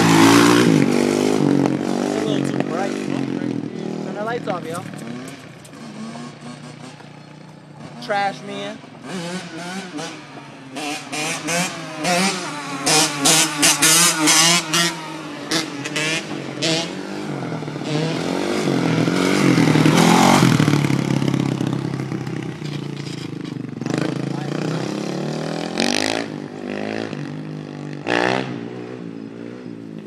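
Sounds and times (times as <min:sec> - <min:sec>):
motorcycle engine revving: 0:00.0 - 0:30.0
motorcycle passing by: 0:00.0 - 0:30.0.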